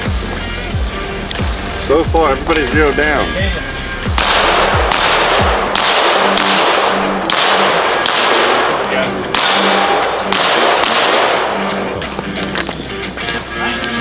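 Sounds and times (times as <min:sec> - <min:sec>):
music with heavy noisy beat: 0:00.0 - 0:14.0.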